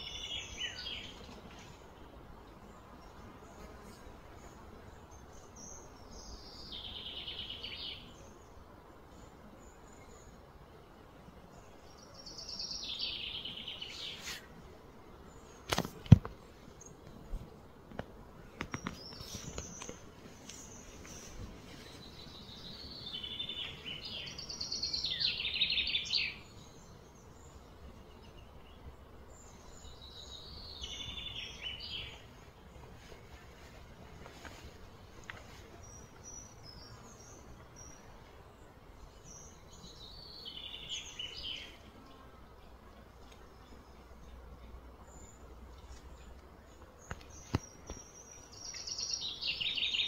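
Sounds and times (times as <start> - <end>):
faint outdoor hiss: 0.0 - 50.0.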